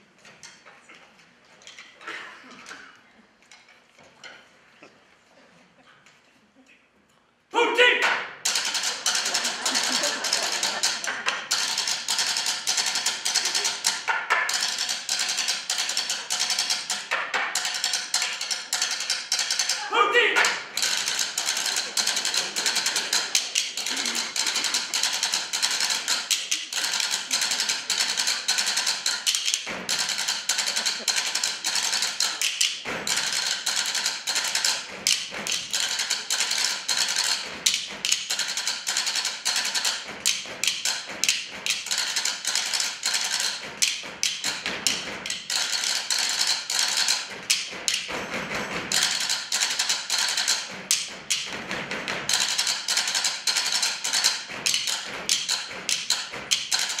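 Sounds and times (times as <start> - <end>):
wooden spoons striking tabletops: 8.0 - 57.0.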